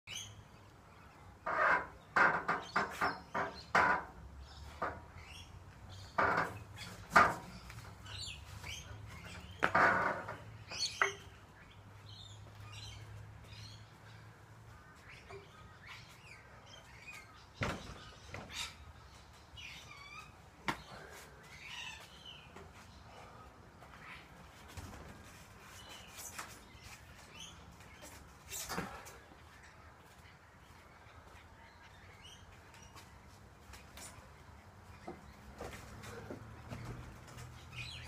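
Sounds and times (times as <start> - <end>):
birds chirping: 0.1 - 38.0.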